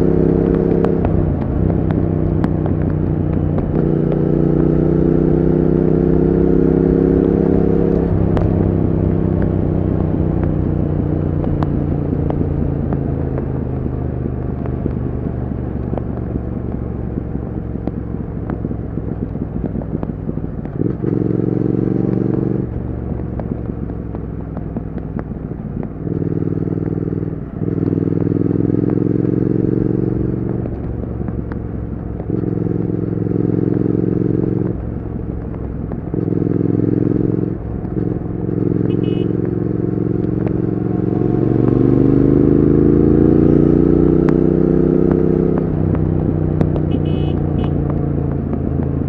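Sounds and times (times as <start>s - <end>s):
motorcycle engine and exhaust: 0.0s - 49.0s.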